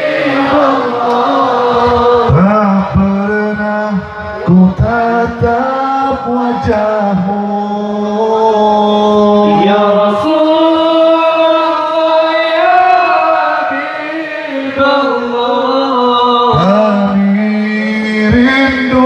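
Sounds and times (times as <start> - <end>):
amplified men chanting: 0.0 - 19.0.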